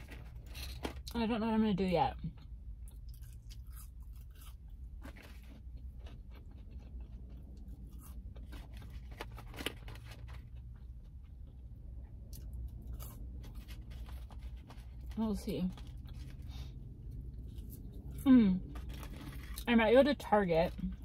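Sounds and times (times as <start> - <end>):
chewing crunchy fries: 0.0 - 1.4, 2.1 - 21.0
steady low hum: 0.0 - 21.0.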